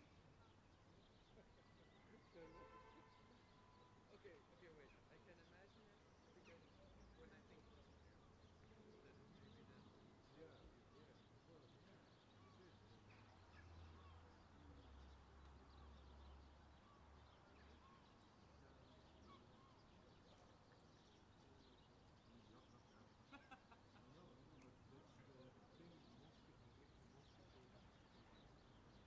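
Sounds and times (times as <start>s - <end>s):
distant birds chirping: 0.0s - 29.0s.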